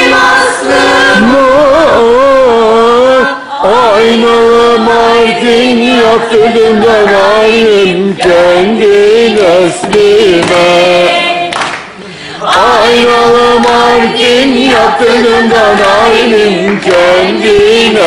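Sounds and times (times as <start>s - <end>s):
group singing folk song: 0.0s - 18.0s.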